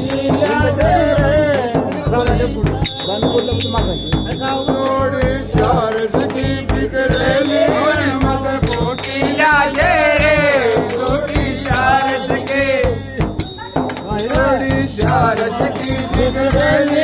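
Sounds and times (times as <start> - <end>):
men singing folk song: 0.0 - 3.6, 4.3 - 17.0
frame drum beat: 0.0 - 17.0
small hand cymbals ringing: 0.0 - 17.0.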